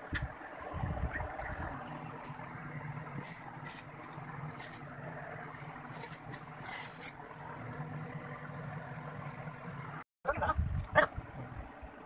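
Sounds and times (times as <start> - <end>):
refrigerator compressor humming: 0.0 - 12.0.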